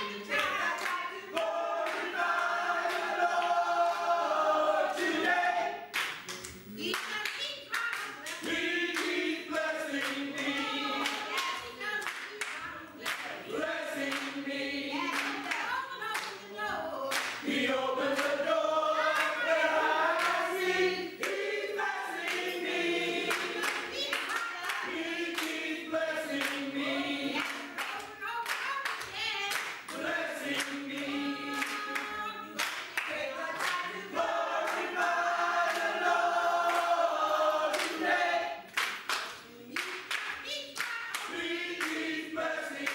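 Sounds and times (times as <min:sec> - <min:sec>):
hand clapping on the beat: 0:00.0 - 0:03.6, 0:05.9 - 0:18.4, 0:19.1 - 0:20.5, 0:21.2 - 0:22.6, 0:23.2 - 0:26.7, 0:27.4 - 0:42.9
choir singing gospel: 0:00.0 - 0:06.2, 0:07.7 - 0:42.9.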